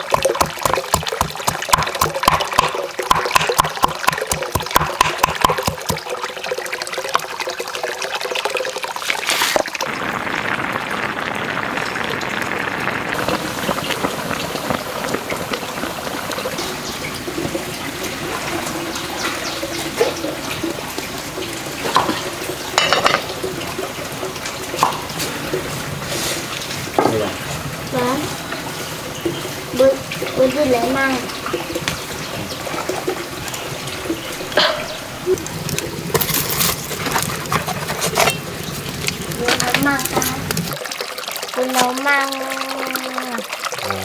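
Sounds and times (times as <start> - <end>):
running splashing water: 0.0 - 44.0.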